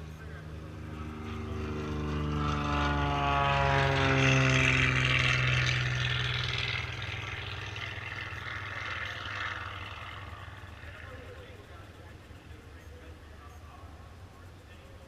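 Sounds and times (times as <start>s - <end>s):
propeller airplane flying past: 0.0s - 15.0s.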